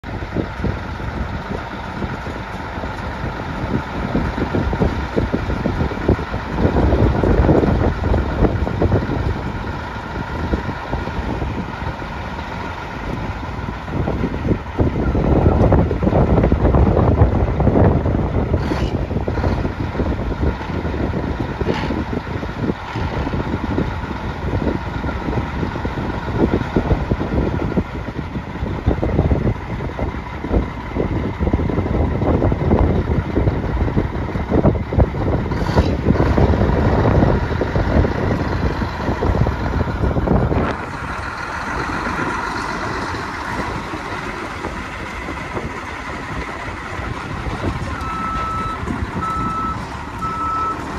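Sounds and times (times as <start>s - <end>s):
diesel truck engine idling: 0.0s - 50.9s.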